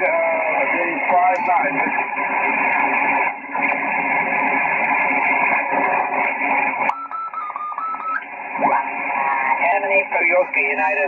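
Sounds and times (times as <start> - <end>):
radio receiver hiss: 0.0 - 7.0, 8.1 - 11.0
garbled off-tune radio signals: 0.0 - 11.0.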